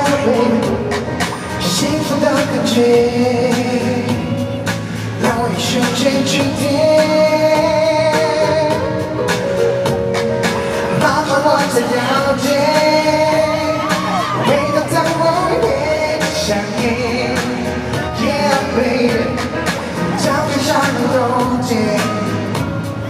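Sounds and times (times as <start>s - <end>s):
man singing into microphone: 0.0s - 9.4s, 10.4s - 23.0s
backing track with steady beat: 0.0s - 23.0s.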